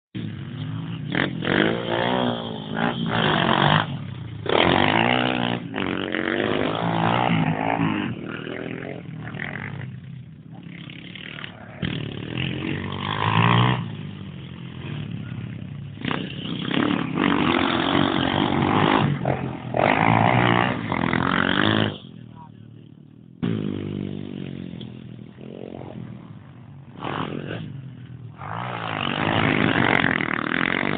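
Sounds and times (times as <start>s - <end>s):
pit bike engine revving: 0.2s - 30.9s.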